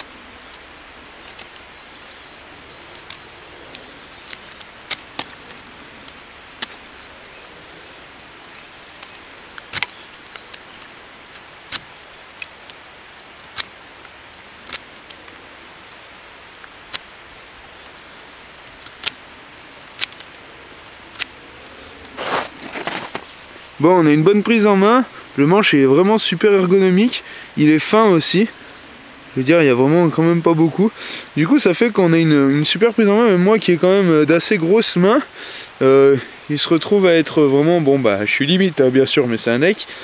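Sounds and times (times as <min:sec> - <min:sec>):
faint outdoor hiss: 0:00.0 - 0:40.0.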